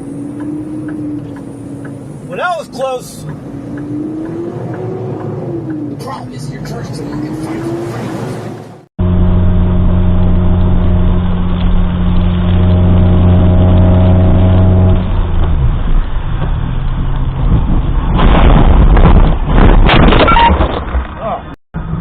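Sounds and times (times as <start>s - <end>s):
vehicle low drone: 0.0s - 2.3s, 3.2s - 19.2s
rough vehicle noise: 0.0s - 22.0s.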